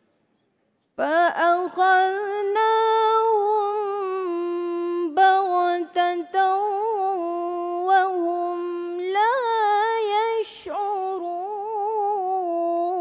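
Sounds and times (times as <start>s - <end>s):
woman reciting melodically: 1.0s - 13.0s.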